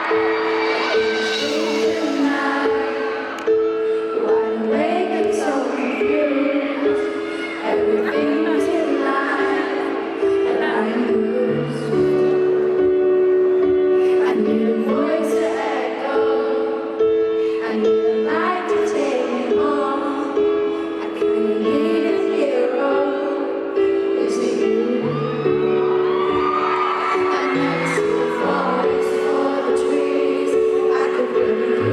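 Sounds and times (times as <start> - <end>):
woman singing: 0.0 - 13.1, 13.8 - 31.9.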